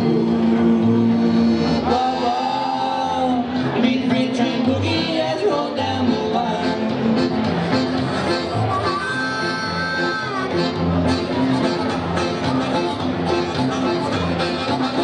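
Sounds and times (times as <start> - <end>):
accordion: 0.0 - 15.0
drums: 0.0 - 15.0
electric guitars: 0.0 - 15.0
upright double bass: 0.0 - 15.0.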